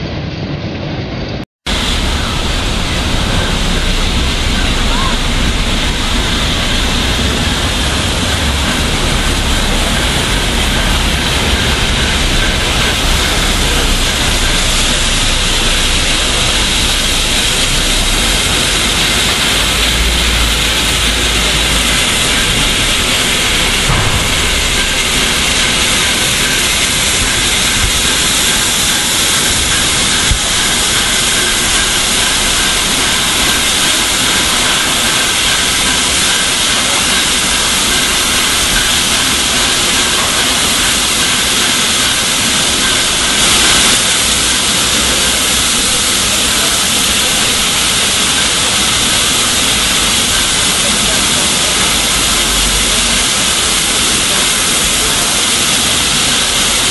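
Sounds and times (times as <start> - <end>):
steam locomotive hissing: 1.7 - 56.9.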